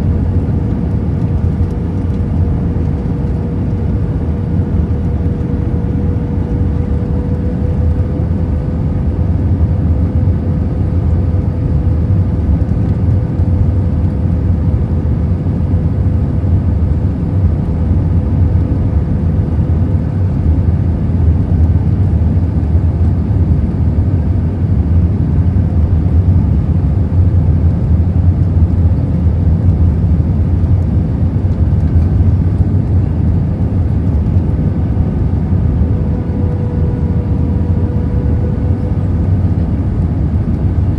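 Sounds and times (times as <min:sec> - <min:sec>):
faint steady whine: 0:00.0 - 0:40.9
jet engine and airflow rumble: 0:00.0 - 0:40.9.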